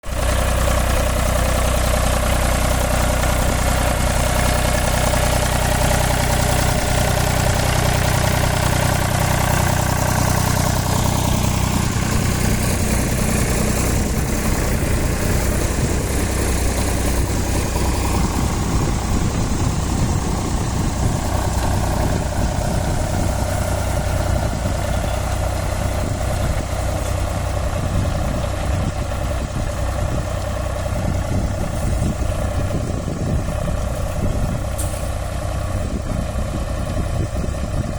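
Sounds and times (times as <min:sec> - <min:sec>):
tractor diesel engine running: 0:00.0 - 0:37.9
rough rattling sound: 0:00.1 - 0:36.0.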